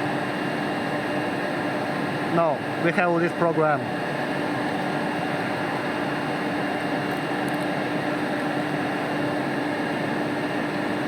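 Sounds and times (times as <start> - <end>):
workshop machinery humming: 0.0 - 11.0.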